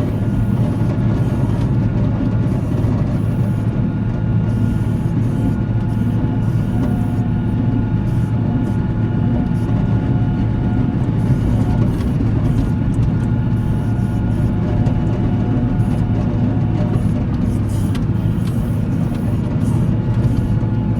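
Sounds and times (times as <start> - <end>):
diesel engine droning: 0.0 - 20.9.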